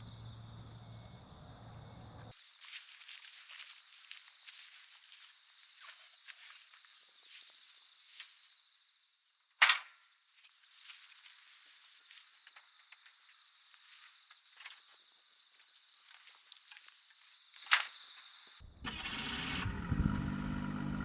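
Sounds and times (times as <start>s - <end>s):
insects trilling: 0.0s - 18.6s.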